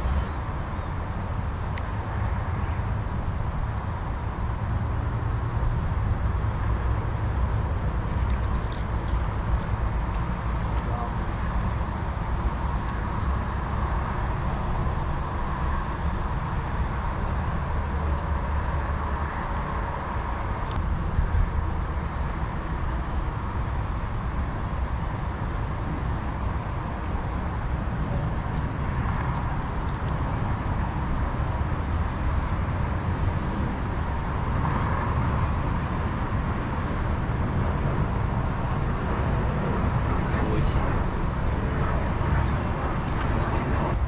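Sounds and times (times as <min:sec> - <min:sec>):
distant road traffic rumble: 0:00.0 - 0:44.0.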